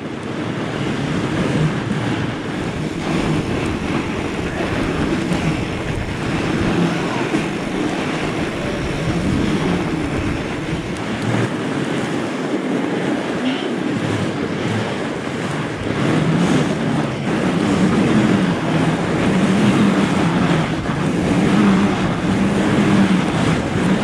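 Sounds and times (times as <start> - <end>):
bike tyres rolling over snow: 0.0 - 11.8, 15.5 - 24.0
wind buffeting microphone: 0.0 - 24.0.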